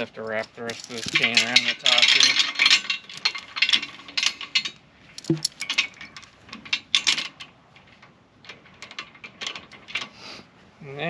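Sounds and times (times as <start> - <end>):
chain clinking and rattling: 0.0 - 10.2.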